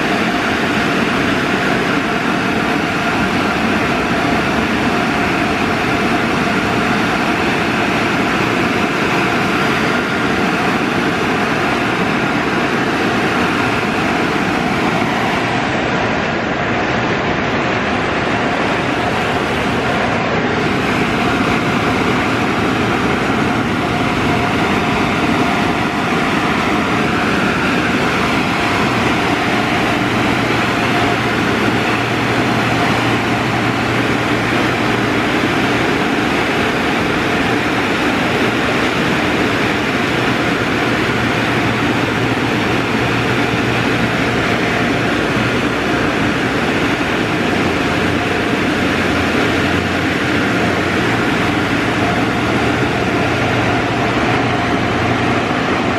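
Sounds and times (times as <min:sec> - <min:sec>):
car wash rushing noise: 0:00.0 - 0:55.9
low hum: 0:00.0 - 0:55.9.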